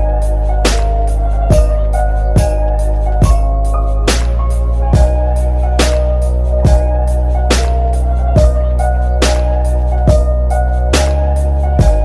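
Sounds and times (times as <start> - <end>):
music with deep bass: 0.0 - 12.0.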